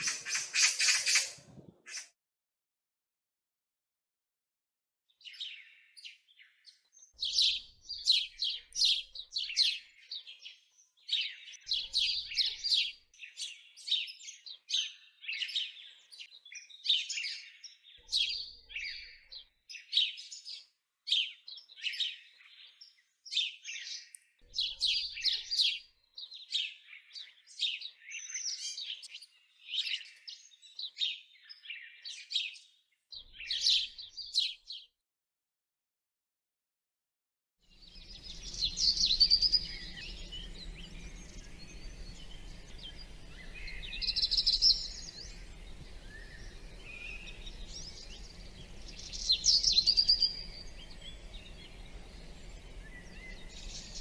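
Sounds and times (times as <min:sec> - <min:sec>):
songbirds chirping and singing: 0:05.2 - 0:34.9, 0:37.7 - 0:54.0.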